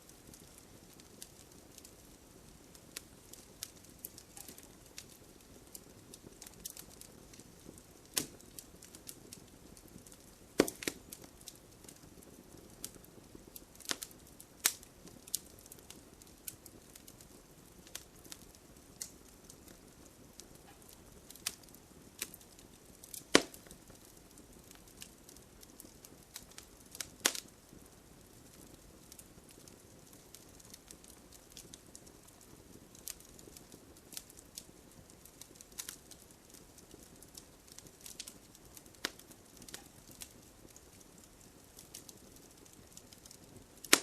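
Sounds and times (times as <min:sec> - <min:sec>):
low steady hiss: 0:00.0 - 0:44.0
wood fire crackling: 0:00.0 - 0:44.0.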